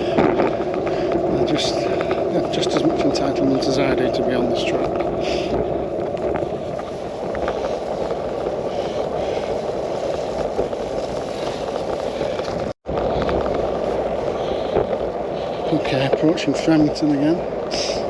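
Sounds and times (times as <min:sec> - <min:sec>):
bicycle tyre rumble: 0:00.0 - 0:18.0
small rattles and clicks: 0:00.0 - 0:18.0
wind on camera microphone: 0:00.0 - 0:18.0.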